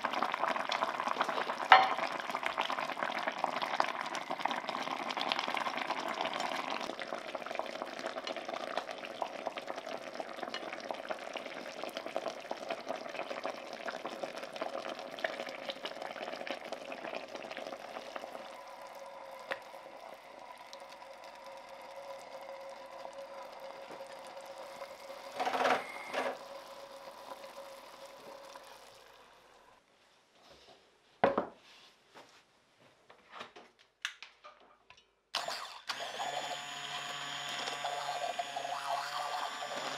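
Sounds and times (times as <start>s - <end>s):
broth simmering and bubbling: 0.0s - 29.8s, 36.0s - 39.9s.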